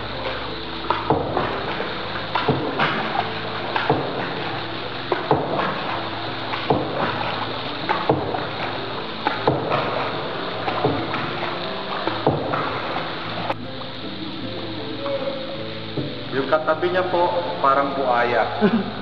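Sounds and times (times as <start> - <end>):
wooden paddles knocking hull: 0.0 - 17.6
water washing: 0.0 - 19.0.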